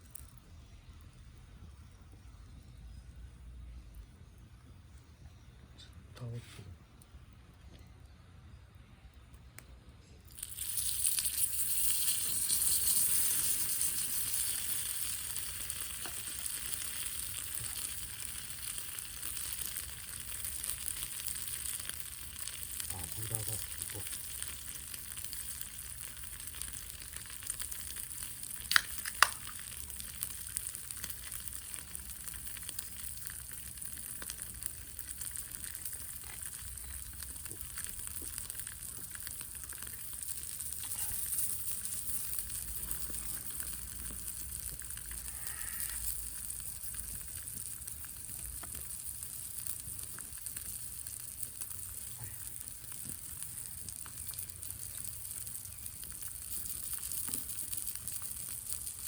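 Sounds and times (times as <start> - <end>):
meat sizzling on a grill: 0.0 - 0.4, 10.3 - 59.0
wood fire crackling: 0.0 - 5.2, 9.0 - 59.0.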